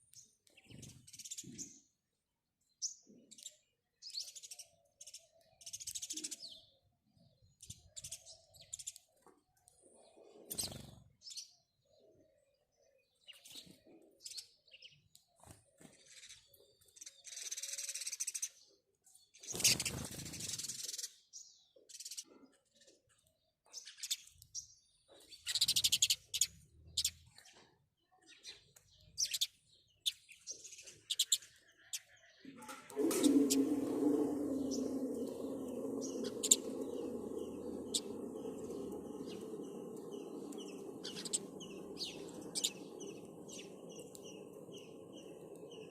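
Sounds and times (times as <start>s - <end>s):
sparrows chirping: 0.0s - 2.0s, 2.6s - 45.9s.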